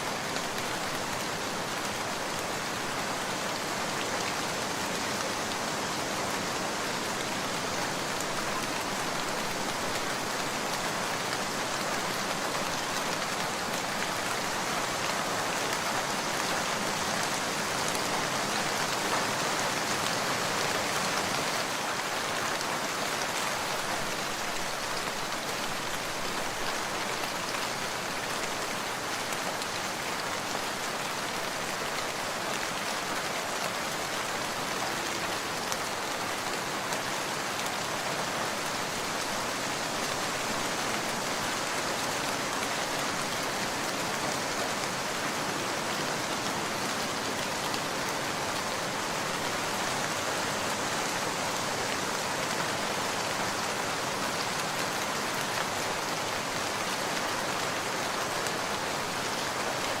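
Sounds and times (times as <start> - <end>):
rain falling on surfaces: 0.0 - 60.0.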